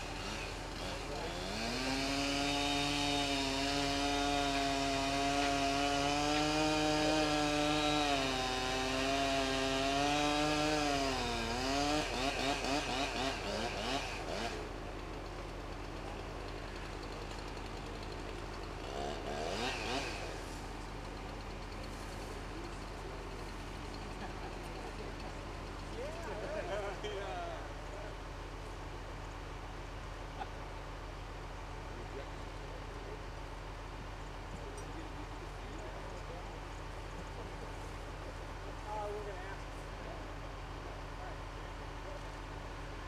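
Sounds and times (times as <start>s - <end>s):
chainsaw running: 0.0s - 41.0s.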